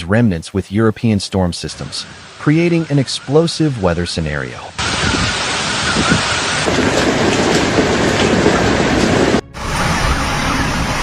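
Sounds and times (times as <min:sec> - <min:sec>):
heavy rain rushing: 0:01.6 - 0:11.0.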